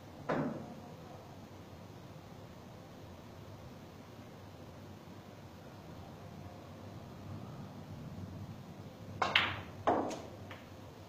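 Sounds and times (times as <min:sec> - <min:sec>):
faint room hiss: 0:00.0 - 0:11.0.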